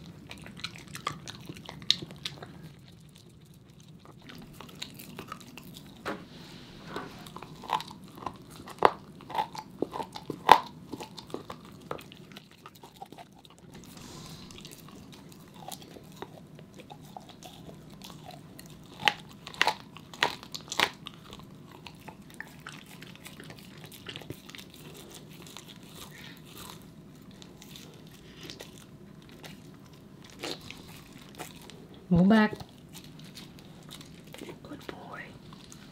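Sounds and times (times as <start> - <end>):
dog chewing clicks: 0.0 - 6.0, 7.4 - 13.8, 14.8 - 34.6
dog crunching a bone: 0.0 - 6.1, 7.1 - 35.9.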